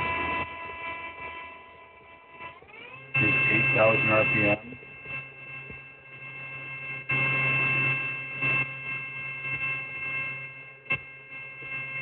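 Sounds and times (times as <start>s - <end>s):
machine spindle whine: 0.0s - 12.0s.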